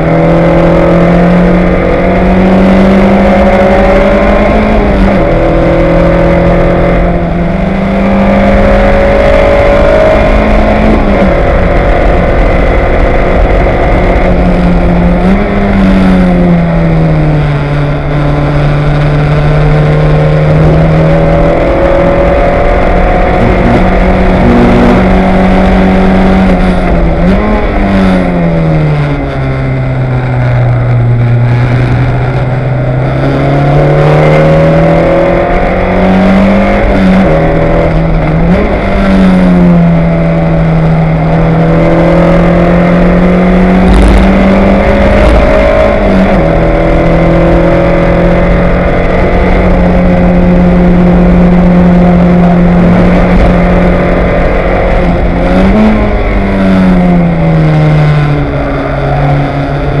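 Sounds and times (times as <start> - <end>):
race car engine at high revs: 0.0 - 60.0.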